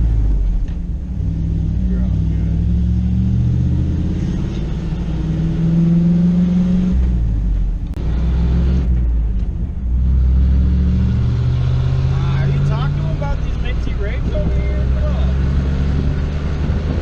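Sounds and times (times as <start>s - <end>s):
pickup engine accelerating: 0.0s - 17.0s.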